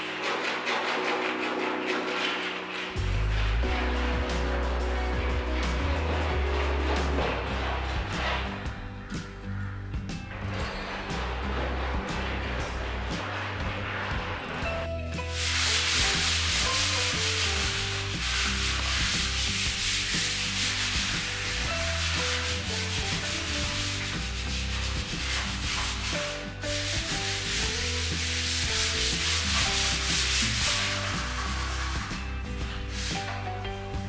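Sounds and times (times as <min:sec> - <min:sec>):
scratchy hiss: 0:00.0 - 0:33.7
background music with bass line: 0:02.7 - 0:34.0.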